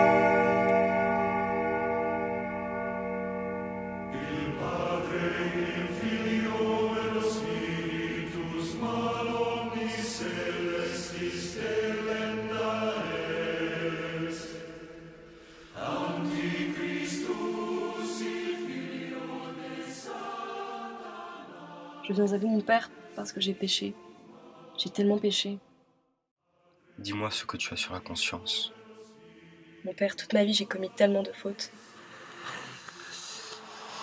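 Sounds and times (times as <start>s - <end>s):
choir chanting sustained chords: 0.0s - 25.8s, 26.5s - 34.0s.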